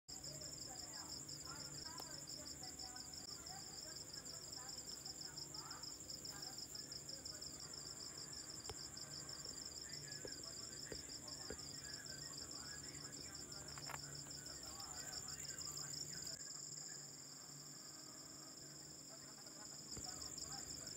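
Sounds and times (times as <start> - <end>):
crickets trilling: 0.1 - 20.9.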